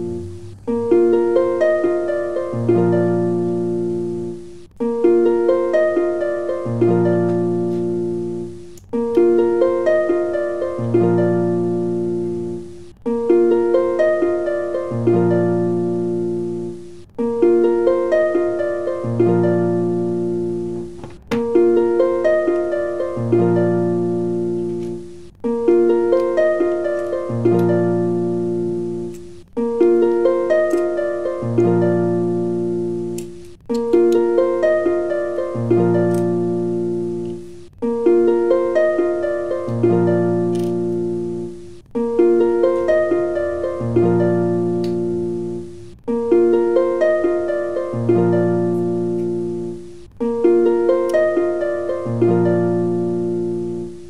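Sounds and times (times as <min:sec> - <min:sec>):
plucked string music: 0:00.0 - 0:54.0.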